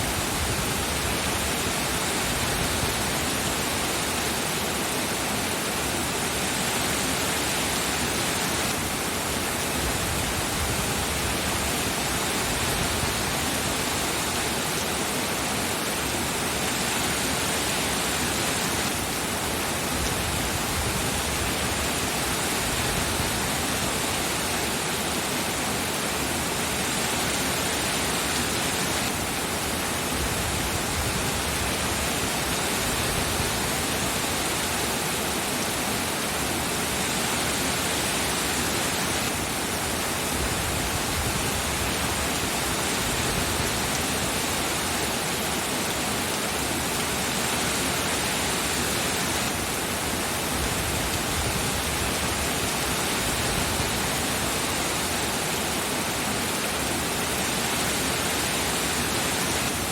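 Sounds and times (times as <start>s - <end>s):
heavy rain hiss: 0.0s - 59.9s.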